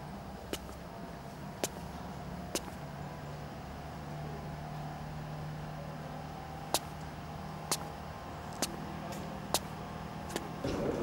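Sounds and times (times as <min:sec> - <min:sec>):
city traffic hum: 0:00.0 - 0:11.0.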